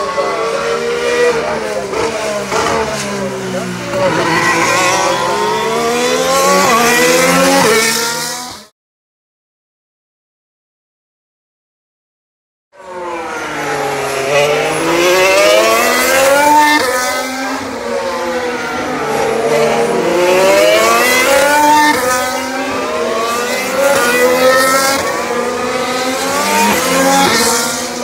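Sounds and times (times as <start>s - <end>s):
race car engines braking and accelerating: 0.0s - 8.7s, 12.8s - 28.0s.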